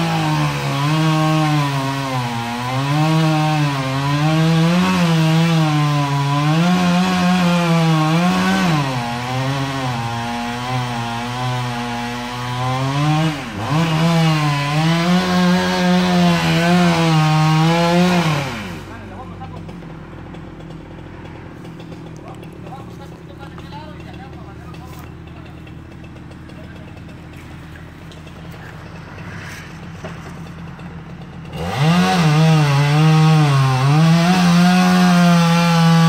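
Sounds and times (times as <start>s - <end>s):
chainsaw cutting wood: 0.0s - 36.0s.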